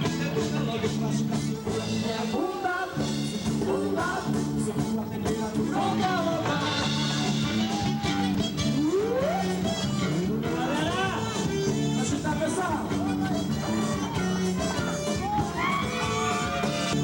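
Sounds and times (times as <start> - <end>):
held bass notes: 0.0 - 17.0
regular drum beat: 0.0 - 17.0.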